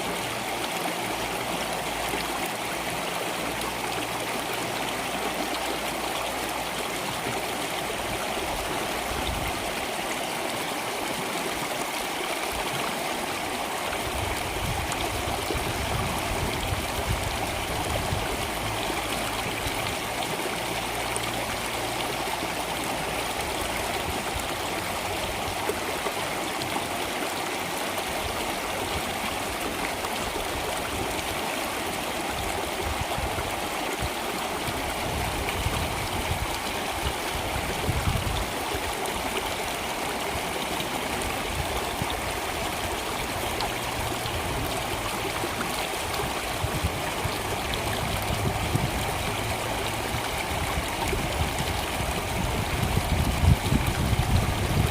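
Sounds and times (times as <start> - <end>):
stream water flowing: 0.0 - 54.9
water splashes: 0.0 - 54.9.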